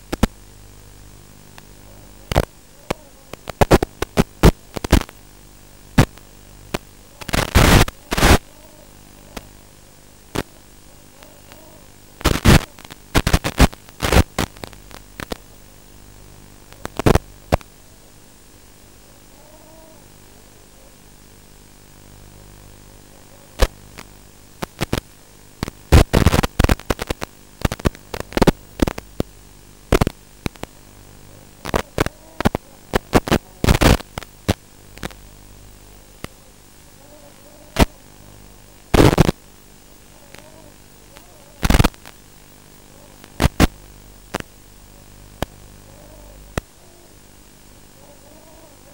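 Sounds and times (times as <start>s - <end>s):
low hiss and hum: 0.0s - 48.9s
radio static crackling: 0.0s - 48.9s.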